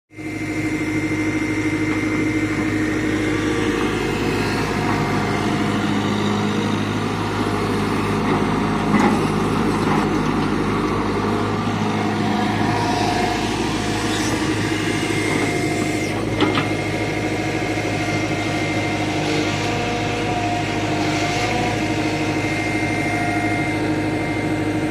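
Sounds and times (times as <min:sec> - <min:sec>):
excavator diesel engine running: 0:00.1 - 0:24.9.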